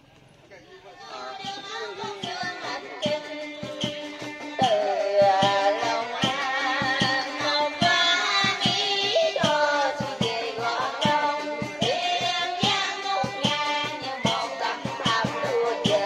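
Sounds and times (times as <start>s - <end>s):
woman singing into a microphone: 1.0s - 16.0s
music with a steady beat: 1.1s - 16.0s.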